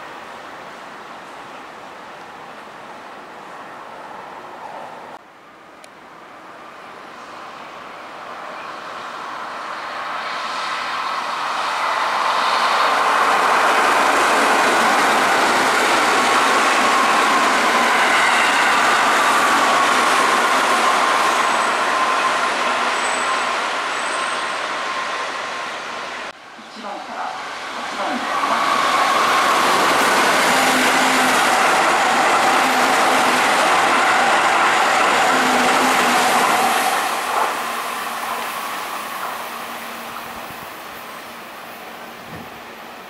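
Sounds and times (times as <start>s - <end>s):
train wheels on rails passing: 6.4s - 43.0s.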